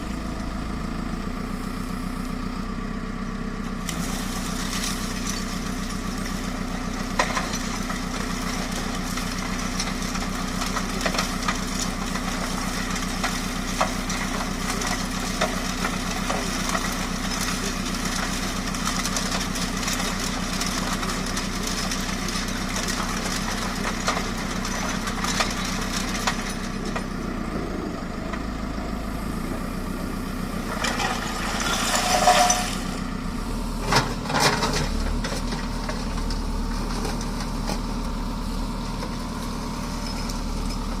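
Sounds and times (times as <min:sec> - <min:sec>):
diesel engine running: 0:00.0 - 0:41.0
hydraulic bucket working stone: 0:00.0 - 0:41.0.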